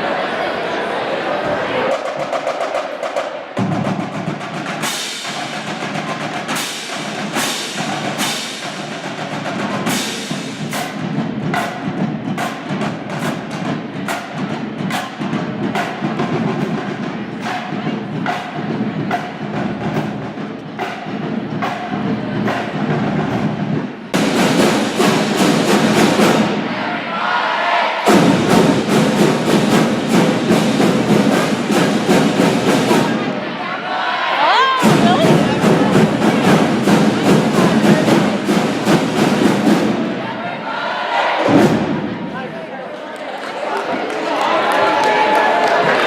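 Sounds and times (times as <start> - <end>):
percussion-led music: 1.8 - 27.0, 28.0 - 33.5, 34.4 - 42.5.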